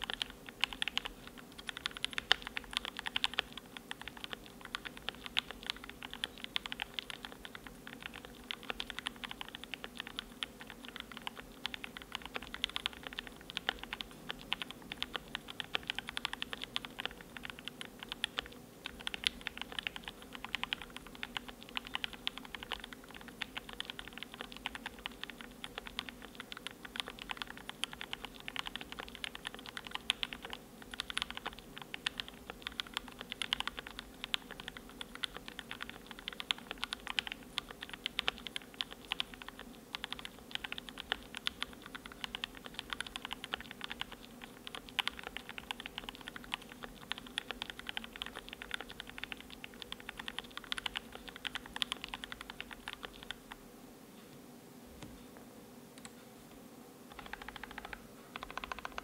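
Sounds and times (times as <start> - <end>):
fast mechanical keyboard typing: 0.0 - 53.6, 57.1 - 59.0.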